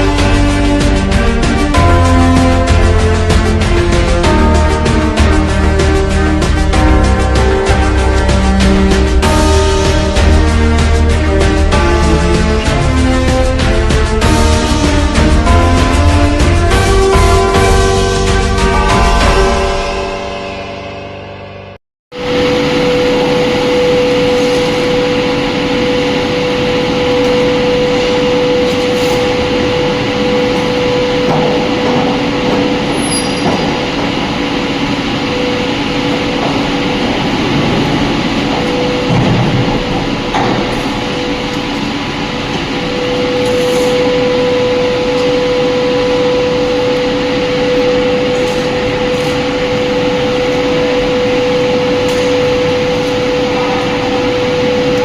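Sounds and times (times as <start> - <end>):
constant high hum: 0.0 - 20.8, 22.2 - 55.0
industrial machinery noise: 0.0 - 55.0.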